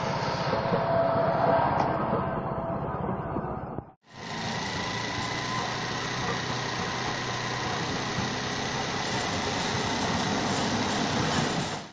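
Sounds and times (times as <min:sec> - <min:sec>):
tram rolling hiss and rumble: 0:00.0 - 0:11.9.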